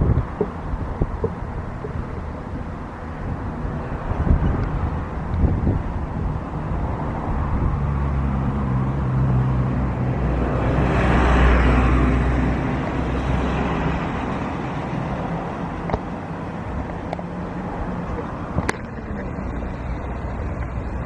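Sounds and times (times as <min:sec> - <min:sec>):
low engine hum: 0:00.0 - 0:21.0
motor vehicle passing by: 0:00.0 - 0:21.0.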